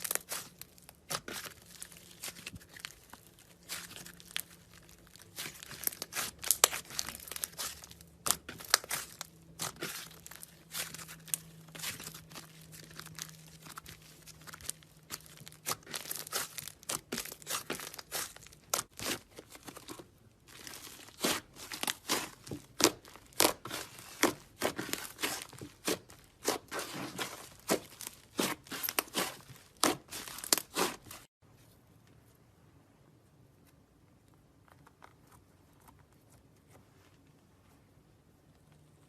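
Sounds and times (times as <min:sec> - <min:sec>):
hands squishing slime: 0:00.0 - 0:31.3.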